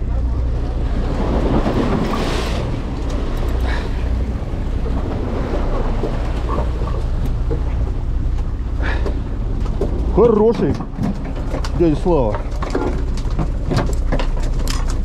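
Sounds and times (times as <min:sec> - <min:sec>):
boat engine humming: 0:00.0 - 0:15.0
water splashing against hull: 0:00.0 - 0:15.0.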